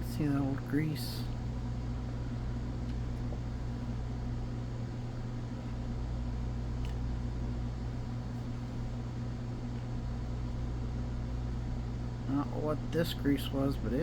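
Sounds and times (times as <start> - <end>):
low electrical hum with hiss: 0.0 - 14.0.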